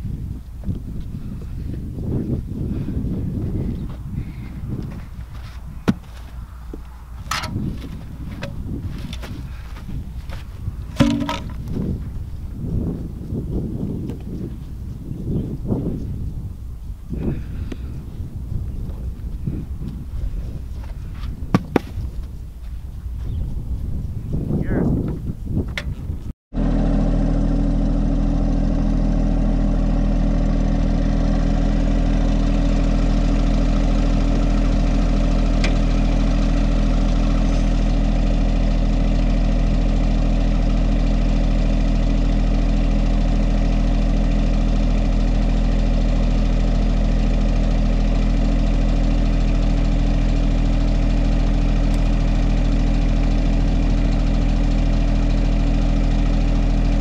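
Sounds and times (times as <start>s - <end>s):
tractor diesel engine idling: 0.0s - 22.6s, 26.6s - 57.0s.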